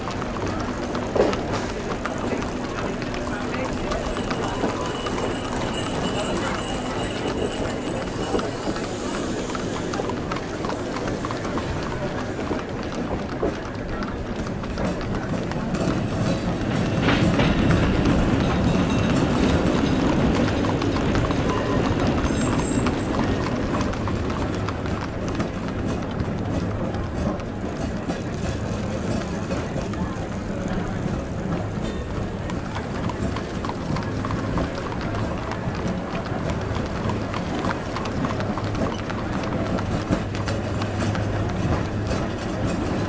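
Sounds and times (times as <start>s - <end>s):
horse hooves clip-clopping on street: 0.0s - 43.0s
rumble of street and tram traffic: 0.0s - 43.0s.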